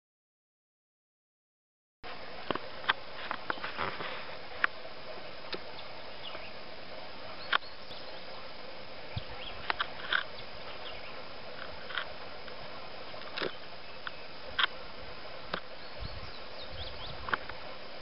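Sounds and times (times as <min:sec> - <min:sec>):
steady outdoor hiss: 0:02.0 - 0:18.0.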